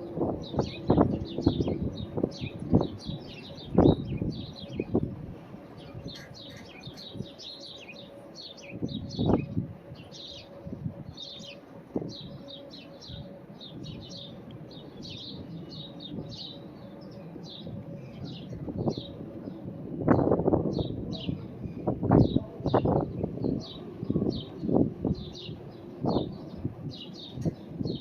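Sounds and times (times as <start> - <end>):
distant warning siren tone: 0.0 - 28.0
small birds chirping: 0.4 - 28.0.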